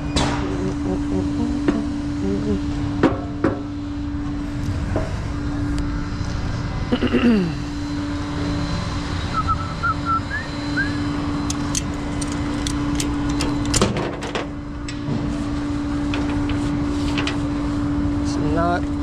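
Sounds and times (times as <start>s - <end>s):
vehicle engine humming: 0.0s - 18.2s.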